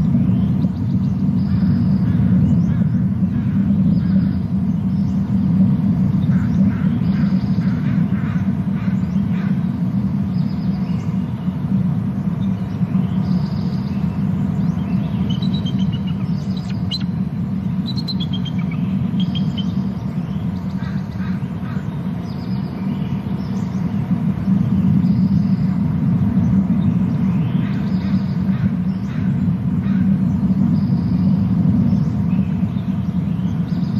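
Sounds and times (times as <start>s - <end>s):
low outdoor rumble: 0.0s - 33.9s
small birds chirping: 0.0s - 33.9s.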